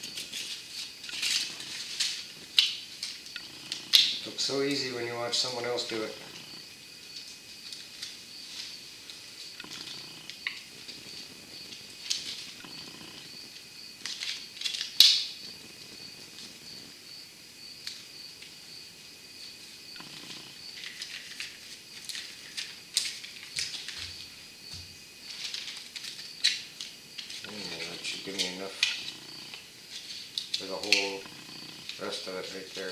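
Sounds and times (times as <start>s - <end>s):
faint high whine: 0.0s - 32.9s.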